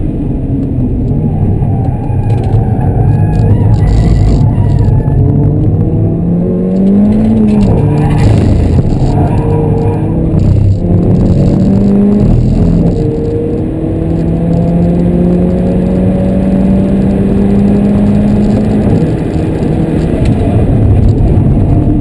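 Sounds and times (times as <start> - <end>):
car engine accelerating hard: 0.0 - 22.0
road and tyre rumble: 0.0 - 22.0.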